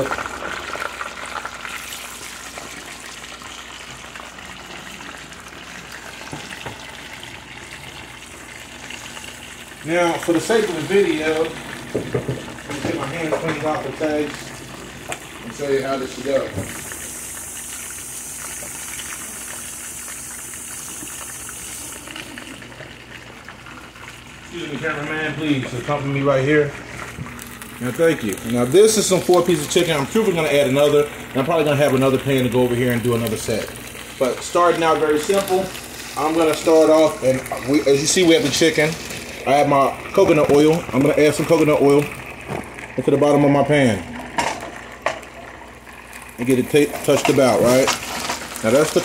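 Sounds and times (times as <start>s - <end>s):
chicken deep-frying in hot oil: 0.0s - 49.0s.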